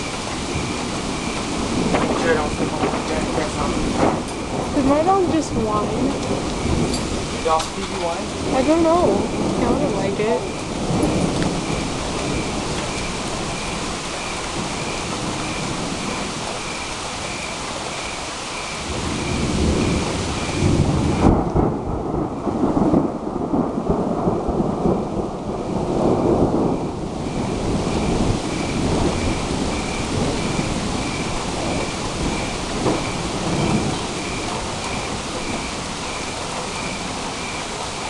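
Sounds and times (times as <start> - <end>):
steady rain: 0.0 - 38.0
thunder rolling: 0.0 - 38.0.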